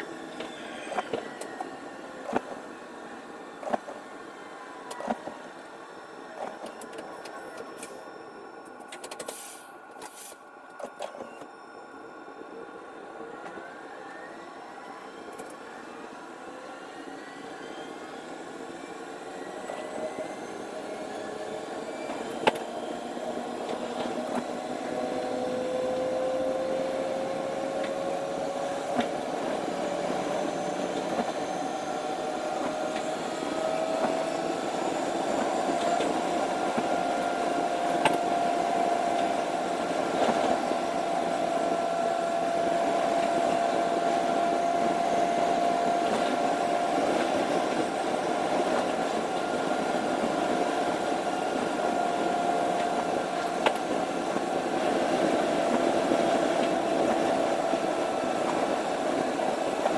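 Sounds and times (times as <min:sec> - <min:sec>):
electric train rumble: 0:00.0 - 0:59.9
train motor whine: 0:00.0 - 0:59.9.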